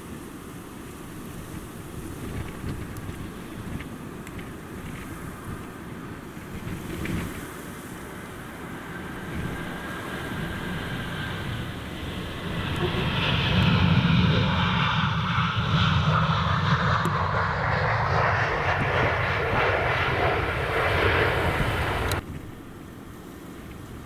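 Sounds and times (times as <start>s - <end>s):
jet engines passing close: 0.0s - 24.0s.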